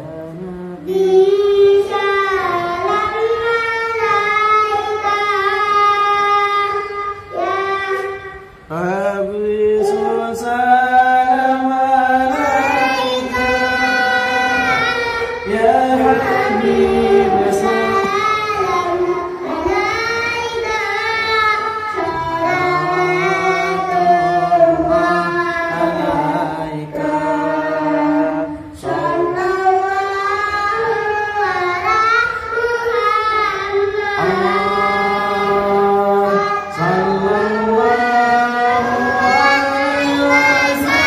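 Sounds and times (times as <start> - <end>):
child singing into a microphone: 0.0 - 41.0.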